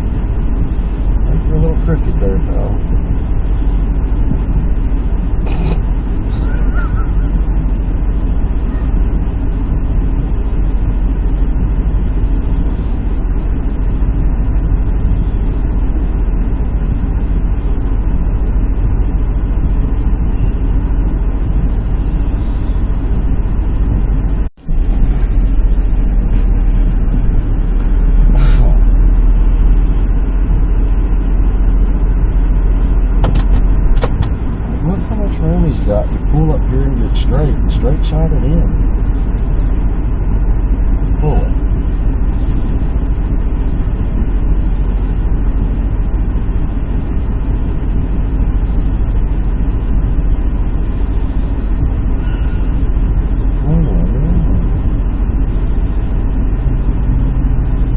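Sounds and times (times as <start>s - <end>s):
diesel truck engine idling: 0.0s - 57.9s.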